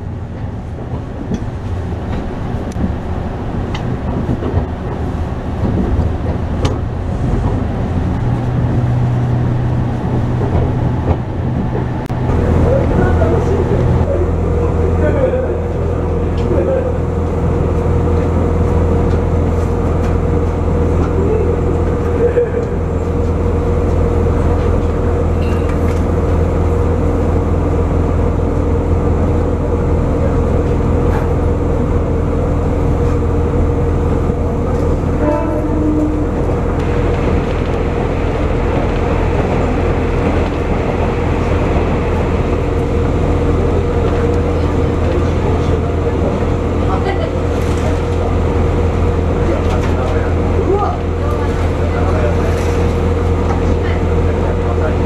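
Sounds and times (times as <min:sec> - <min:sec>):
train engine drone: 0:00.0 - 0:55.0
wheels rumbling on rails: 0:00.0 - 0:55.0.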